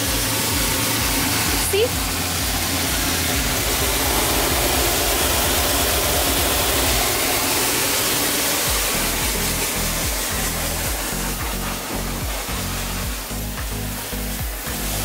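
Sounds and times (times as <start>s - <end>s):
background music beat: 0.0s - 15.0s
shower head spraying water: 0.0s - 15.0s.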